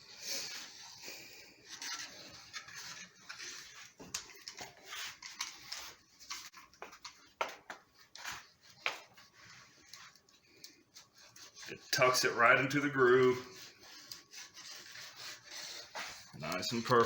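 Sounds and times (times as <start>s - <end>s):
raspy rolling strokes: 0.1s - 17.0s.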